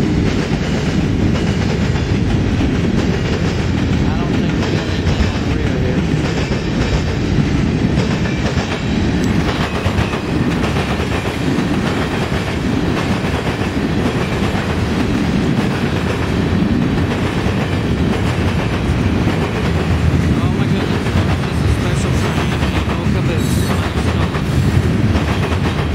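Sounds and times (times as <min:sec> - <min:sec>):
freight train wheels on rails: 0:00.0 - 0:25.9.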